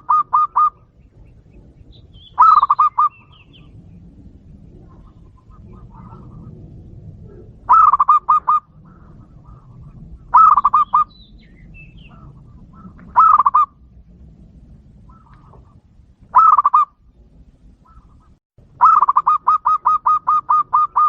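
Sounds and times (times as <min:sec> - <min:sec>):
dove cooing: 0:00.0 - 0:13.9, 0:15.0 - 0:21.0
birds chirping: 0:00.0 - 0:14.1, 0:14.9 - 0:21.0.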